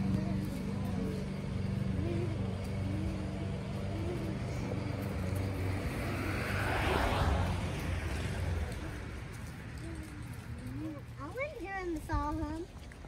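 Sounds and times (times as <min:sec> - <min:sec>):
faint voices: 0:00.0 - 0:12.9
low motor hum: 0:00.0 - 0:13.0.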